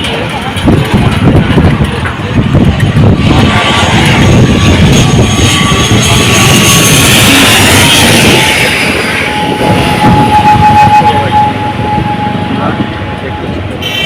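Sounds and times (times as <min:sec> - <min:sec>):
airplane passing overhead: 0:00.0 - 0:14.0.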